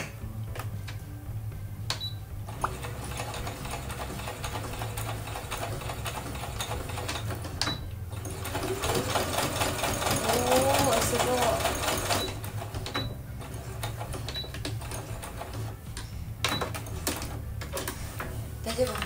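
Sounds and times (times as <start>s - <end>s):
sewing machine stitching: 2.5s - 19.0s.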